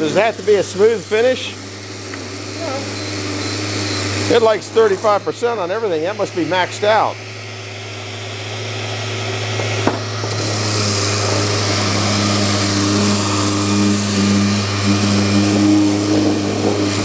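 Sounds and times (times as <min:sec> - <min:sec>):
machine humming and hissing: 0:00.0 - 0:17.0.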